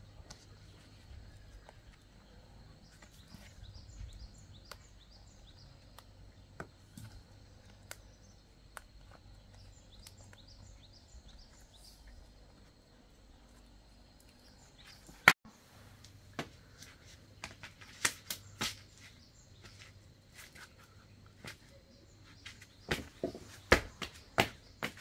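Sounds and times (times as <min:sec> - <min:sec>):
bird chirping: 0:00.0 - 0:15.3, 0:17.7 - 0:25.0.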